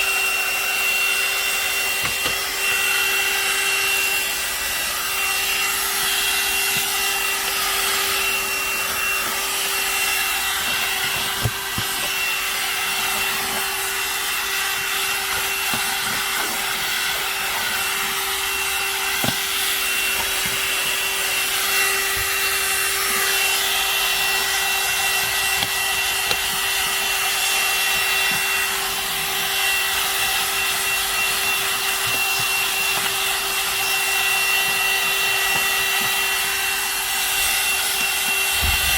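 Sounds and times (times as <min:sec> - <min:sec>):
handheld vacuum running: 0:00.0 - 0:38.9.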